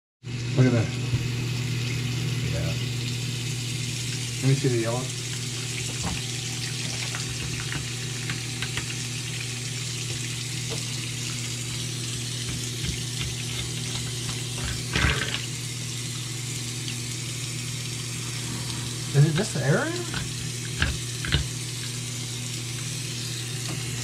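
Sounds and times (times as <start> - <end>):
faucet running into sink: 0.4 - 24.0
constant low hum: 0.8 - 24.0.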